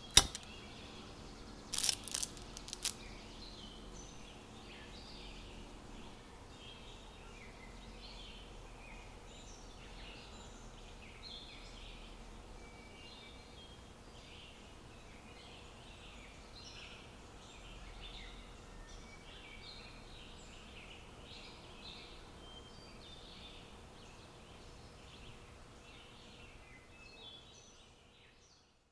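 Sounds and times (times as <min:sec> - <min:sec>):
small birds chirping: 0:00.0 - 0:28.6.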